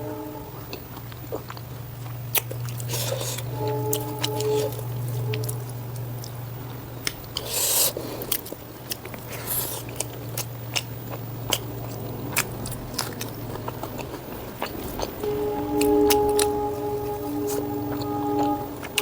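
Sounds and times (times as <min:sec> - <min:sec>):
low steady hum: 0:00.0 - 0:19.0
wet chewing with mouth clicks: 0:00.7 - 0:19.0.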